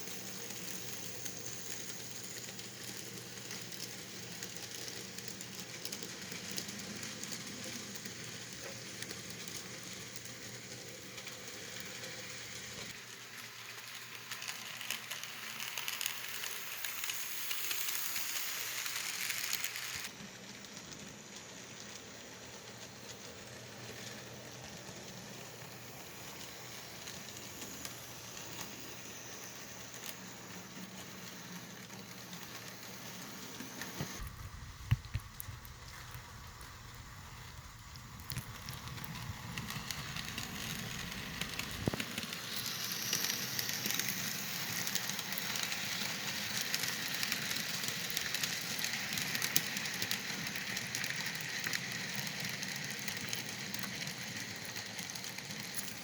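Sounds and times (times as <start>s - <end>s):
model train motor hiss: 0.0s - 34.7s, 35.4s - 56.0s.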